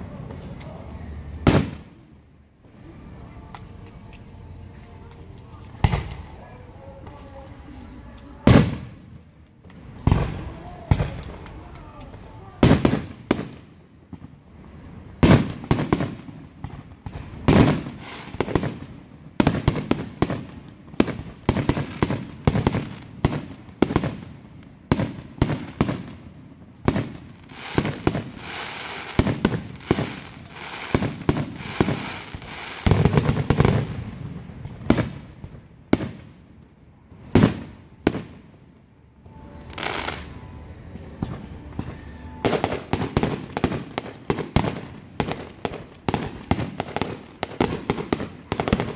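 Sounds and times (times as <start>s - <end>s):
crackling fireworks stars: 0.0s - 48.9s.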